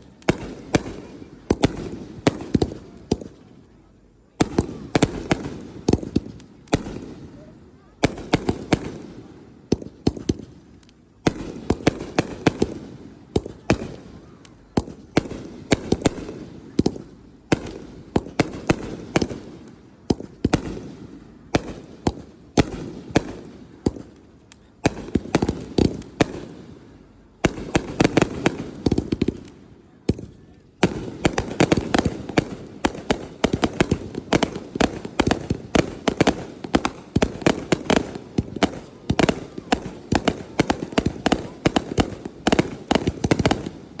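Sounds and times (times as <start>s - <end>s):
fireworks bursting: 0.0s - 44.0s
fireworks crackling: 0.0s - 44.0s.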